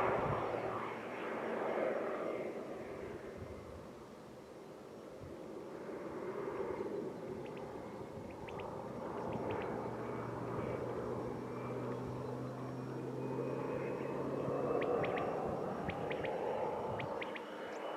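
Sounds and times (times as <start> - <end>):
faint high whine: 0.0 - 17.9
propeller plane engine: 0.0 - 17.9.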